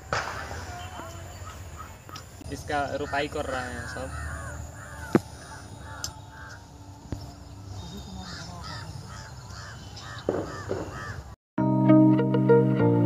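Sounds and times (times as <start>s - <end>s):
crow cawing: 0.3s - 11.4s.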